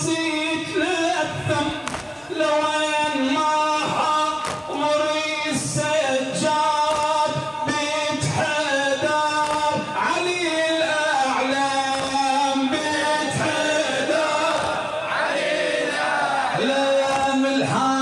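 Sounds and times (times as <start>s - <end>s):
man chanting unaccompanied: 0.0s - 18.0s.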